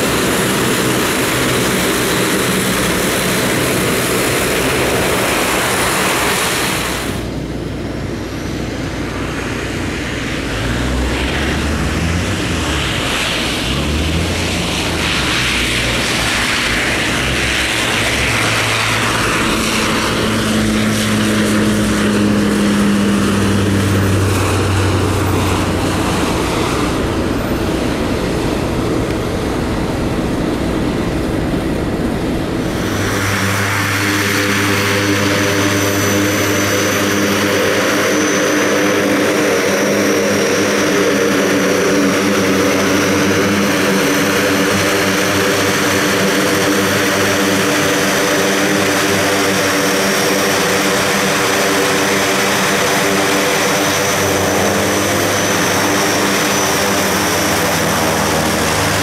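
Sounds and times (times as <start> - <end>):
high turbine whine: 0.0 - 59.0
propeller hum: 0.0 - 59.0
turboprop engines rushing: 0.0 - 59.0.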